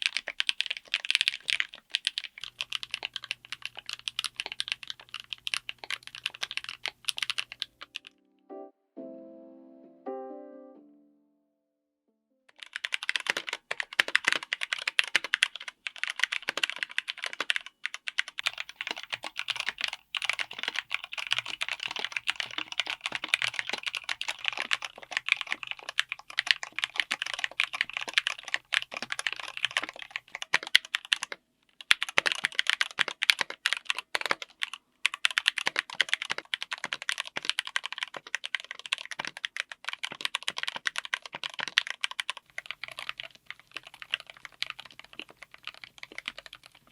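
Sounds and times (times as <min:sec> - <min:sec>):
fast mechanical keyboard typing: 0:00.0 - 0:08.1, 0:12.5 - 0:46.9.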